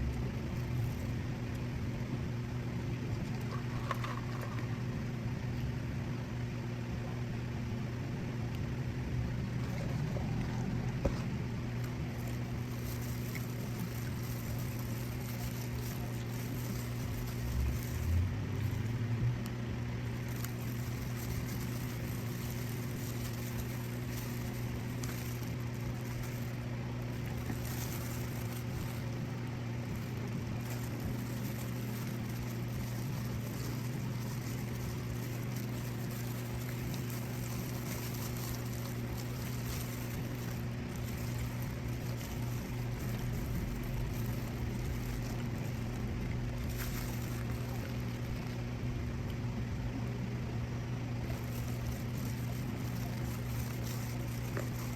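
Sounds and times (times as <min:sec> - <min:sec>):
low machine hum: 0:00.0 - 0:54.9.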